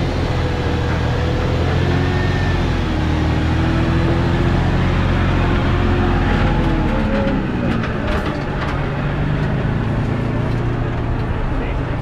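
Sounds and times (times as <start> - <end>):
truck engine at low revs: 0.0 - 12.0.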